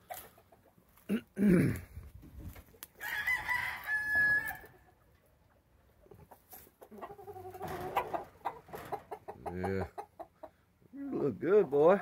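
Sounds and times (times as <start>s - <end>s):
chickens calling: 0.0s - 1.1s, 2.0s - 12.0s.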